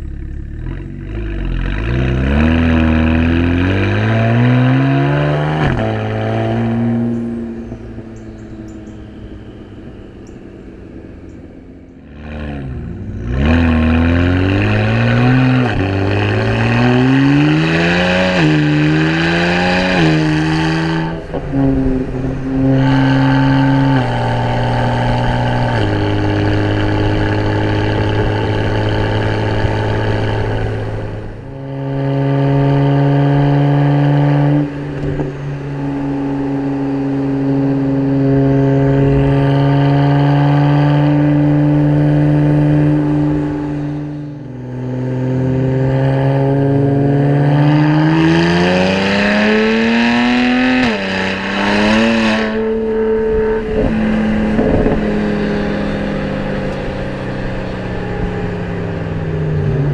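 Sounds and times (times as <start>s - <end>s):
car engine accelerating and cruising: 0.0s - 59.9s.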